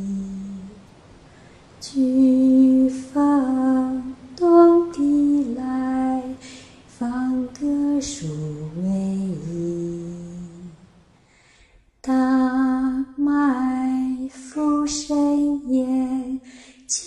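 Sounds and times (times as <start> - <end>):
woman singing slow melody: 0.0 - 11.1, 12.0 - 17.0.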